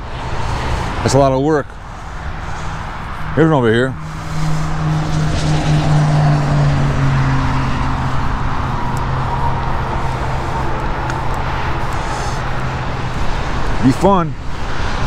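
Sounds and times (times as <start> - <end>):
road and tyre noise: 0.0 - 15.0
car engine running: 1.8 - 14.6.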